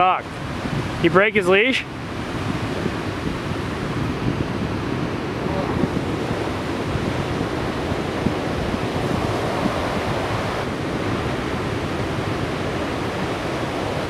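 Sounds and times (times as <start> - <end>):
ocean waves breaking: 0.0 - 14.0
wind noise on microphone: 0.0 - 14.0.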